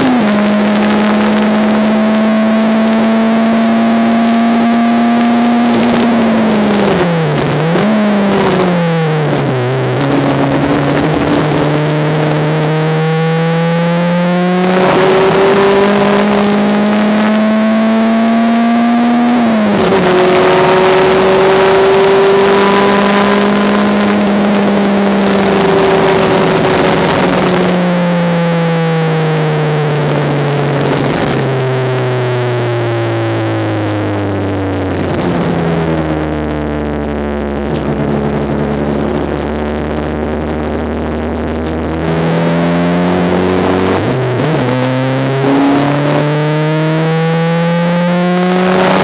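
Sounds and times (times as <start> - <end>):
race car engine revving: 0.0 - 49.0
wind and road noise: 0.0 - 49.0.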